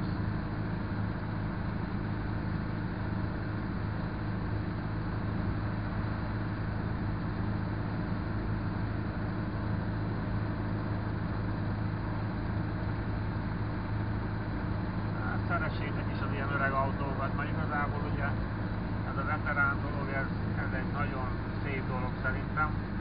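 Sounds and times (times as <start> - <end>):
car engine hum: 0.0 - 23.0
road noise inside car: 0.0 - 23.0.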